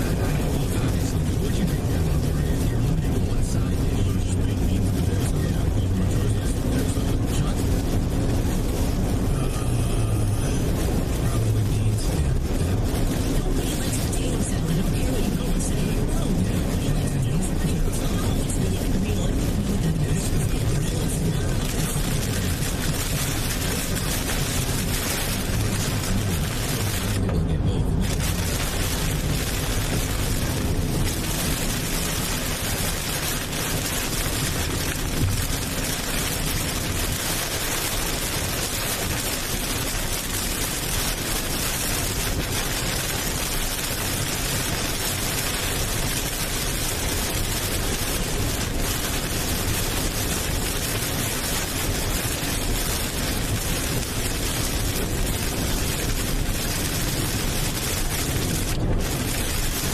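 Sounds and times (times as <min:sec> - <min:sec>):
steady broadband rushing noise: 0:00.0 - 0:59.9.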